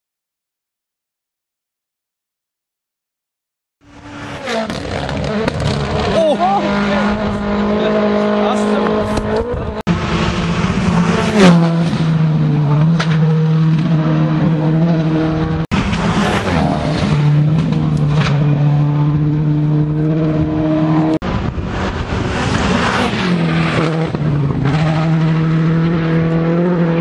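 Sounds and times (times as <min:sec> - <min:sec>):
rally car engine at high revs: 0:03.8 - 0:27.0.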